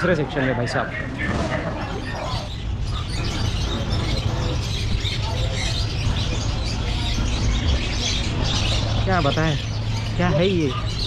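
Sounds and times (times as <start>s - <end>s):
caged birds chirping: 0.0s - 11.0s
market hubbub rumble: 0.0s - 11.0s.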